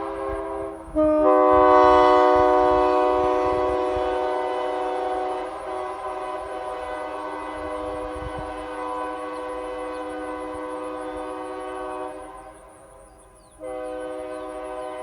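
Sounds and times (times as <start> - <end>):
locomotive air horn chord: 0.0 - 15.0.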